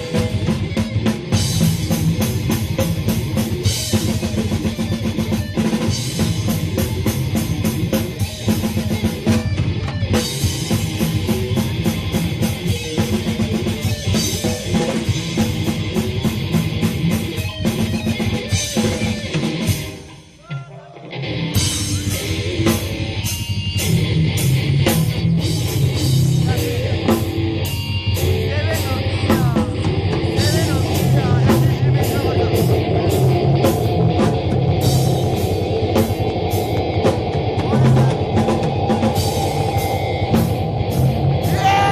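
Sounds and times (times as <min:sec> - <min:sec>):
drum kit: 0:00.0 - 0:41.9
rock band playing: 0:00.0 - 0:41.9.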